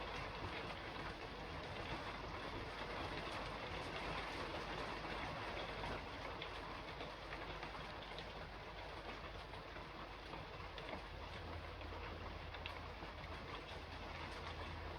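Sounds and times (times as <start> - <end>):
rain on a roof: 0.0 - 14.9.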